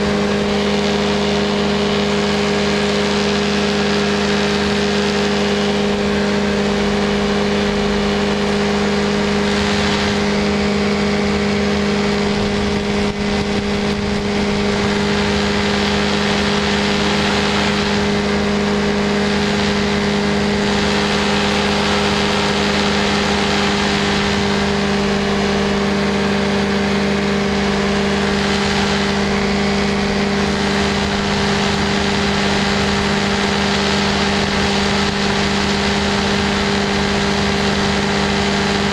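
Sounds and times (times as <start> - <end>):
aircraft engine and propeller: 0.0 - 38.9
wide rushing noise: 0.0 - 38.9.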